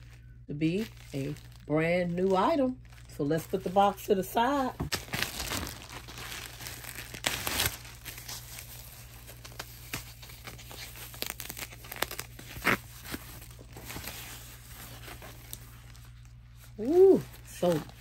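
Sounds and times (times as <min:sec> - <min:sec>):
plastic bag and foam crinkling: 0:00.0 - 0:18.0.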